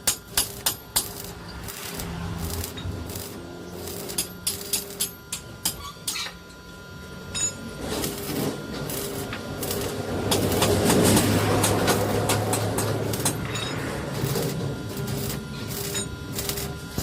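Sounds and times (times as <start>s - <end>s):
low hum: 0.5s - 17.0s.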